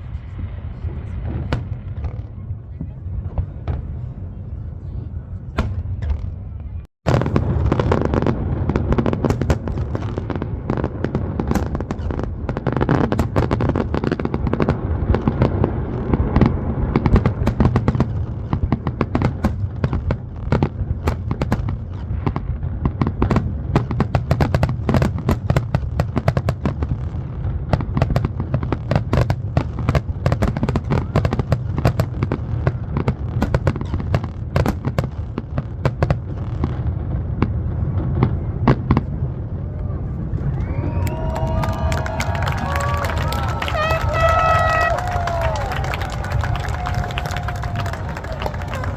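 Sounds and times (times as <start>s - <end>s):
fireworks exploding: 0.0s - 48.9s.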